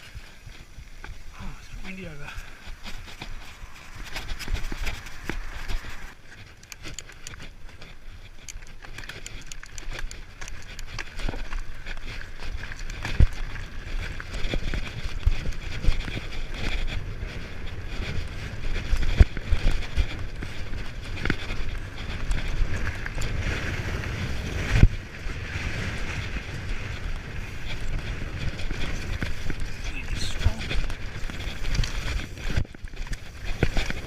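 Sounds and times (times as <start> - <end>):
wind buffeting microphone: 0.0 - 34.0
tyres rushing on dirt: 0.2 - 34.0.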